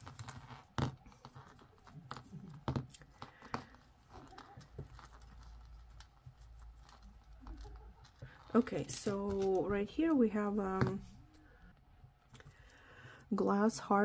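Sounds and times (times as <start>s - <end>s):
necklace rustling and clicking: 0.0s - 12.8s.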